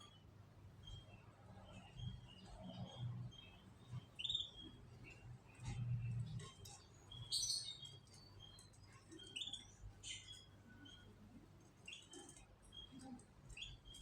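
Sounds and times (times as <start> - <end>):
canaries chirping: 0.0 - 14.0.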